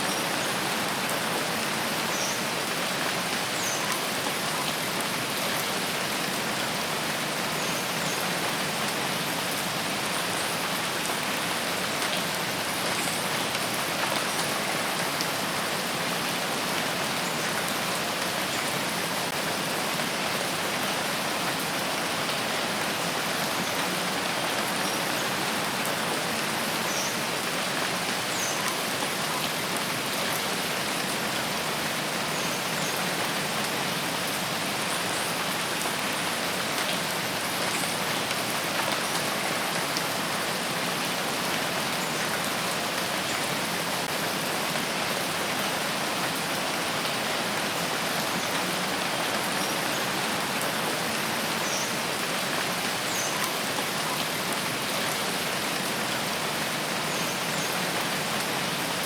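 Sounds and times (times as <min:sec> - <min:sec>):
heavy rain on forest canopy: 0:00.0 - 0:59.0.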